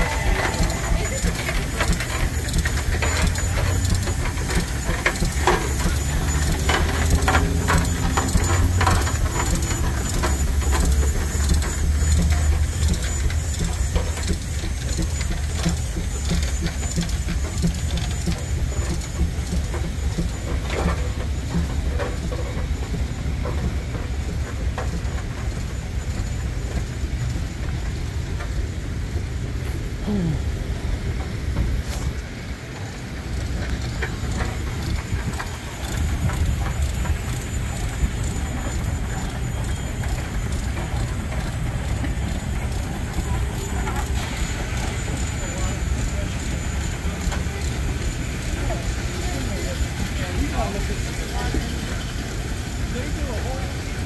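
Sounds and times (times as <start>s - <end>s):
large engine rumbling: 0.0s - 54.0s.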